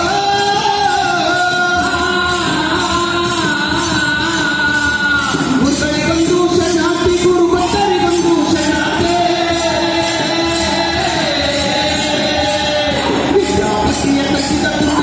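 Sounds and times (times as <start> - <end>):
hand cymbals clashing: 0.0 - 15.0
men singing in unison: 0.0 - 15.0.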